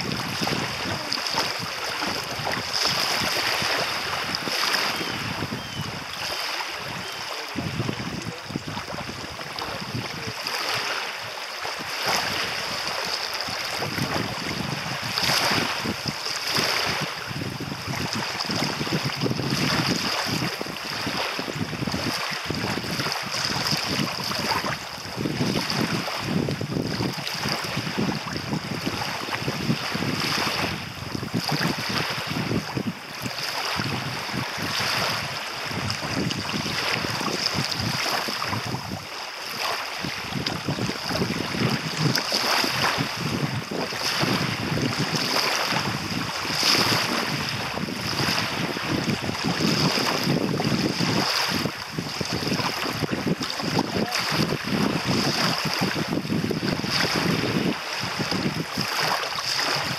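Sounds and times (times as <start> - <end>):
waves lapping on shore: 0.0 - 59.9
wind buffeting microphone: 0.0 - 59.9.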